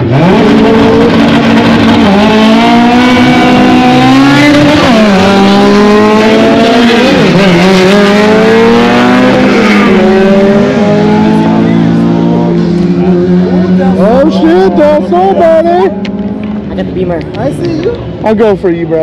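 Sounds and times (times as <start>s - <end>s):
race car engine accelerating: 0.0s - 17.4s.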